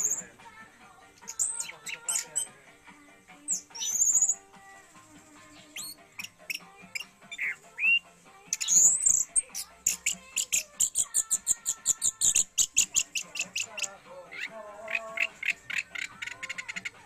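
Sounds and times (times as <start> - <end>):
faint background music: 0.0 - 17.0
thrush singing with fast trills: 0.0 - 17.0.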